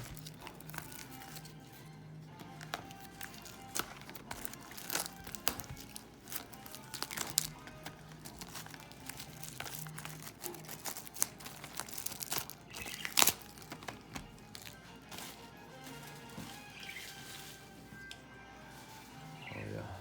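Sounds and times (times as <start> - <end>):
plastic wrapping crinkling and tearing: 0.0 - 19.6
faint music: 0.0 - 20.0.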